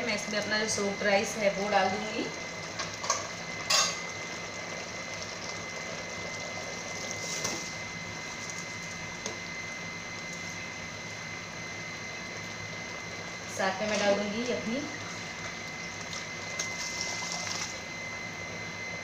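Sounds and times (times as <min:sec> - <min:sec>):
food sizzling in oil: 0:00.0 - 0:18.2.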